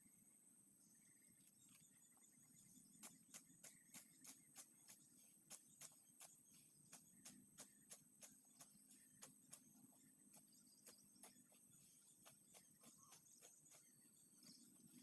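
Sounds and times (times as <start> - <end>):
insects trilling: 0.0 - 15.0
sickle cutting grass: 3.0 - 15.0.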